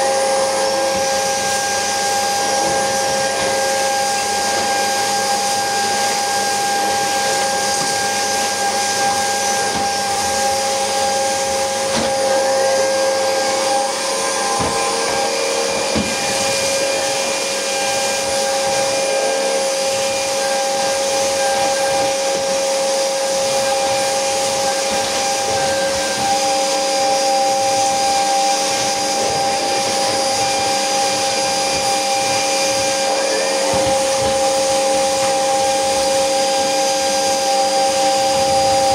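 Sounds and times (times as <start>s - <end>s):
brush pushed over hard floor: 0.0s - 38.9s
vacuum cleaner running: 0.0s - 38.9s.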